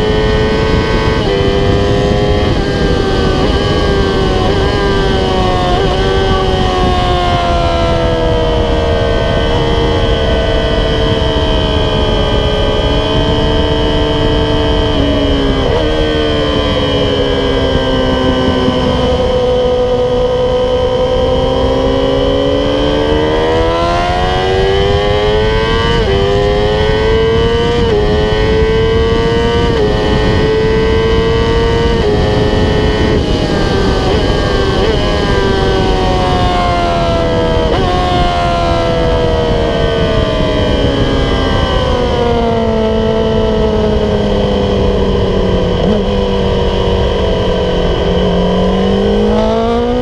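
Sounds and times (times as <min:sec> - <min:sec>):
motorcycle engine revving: 0:00.0 - 0:50.0
wind rush: 0:00.0 - 0:50.0.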